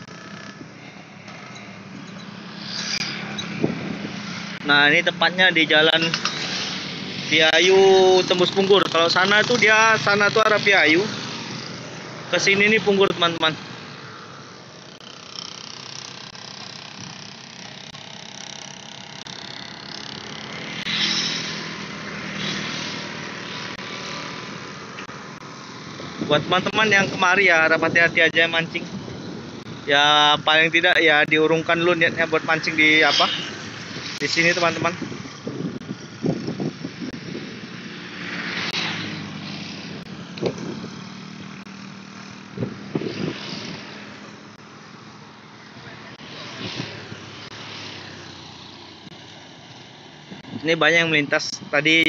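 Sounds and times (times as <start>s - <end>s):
motorcycle passing close: 0.0s - 52.0s
road traffic with motorcycles: 0.0s - 52.0s.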